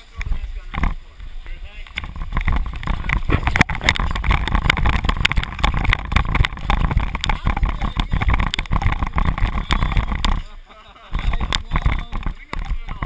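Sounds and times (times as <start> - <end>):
wind on microphone: 0.0 - 13.0
camera rubbing against clothing: 0.1 - 13.0.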